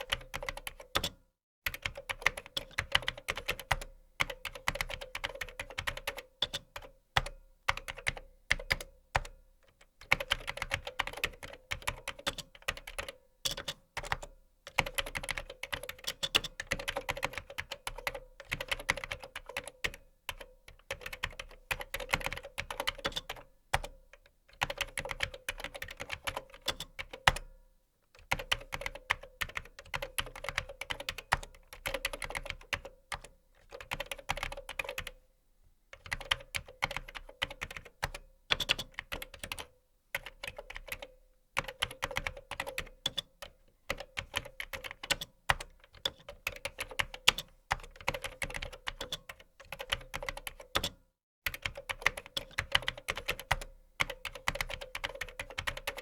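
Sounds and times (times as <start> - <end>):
fast typing on keyboard: 0.0 - 1.1, 1.7 - 9.4, 10.0 - 24.0, 24.6 - 27.4, 28.2 - 35.2, 36.0 - 56.0.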